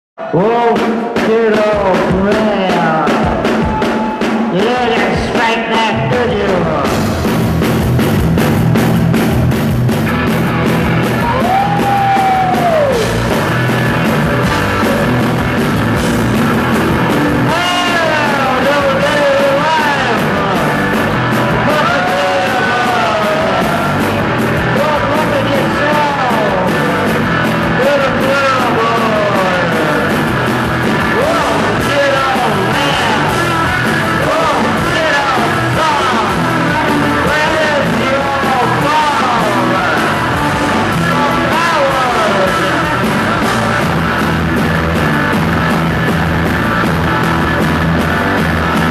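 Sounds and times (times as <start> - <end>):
bass guitar: 0.2 - 48.9
drum kit: 0.2 - 48.9
electric guitar: 1.9 - 48.9.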